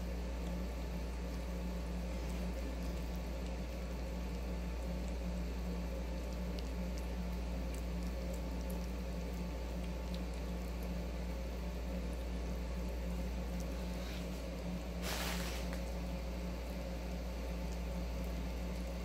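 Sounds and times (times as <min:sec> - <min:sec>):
kittens chewing and smacking: 0:00.0 - 0:19.0
steady low hum: 0:00.0 - 0:19.0.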